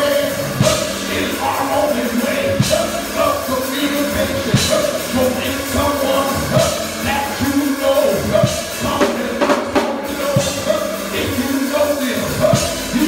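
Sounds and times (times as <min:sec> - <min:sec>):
drum kit played with sticks: 0:00.0 - 0:13.0
live band music: 0:00.0 - 0:13.0.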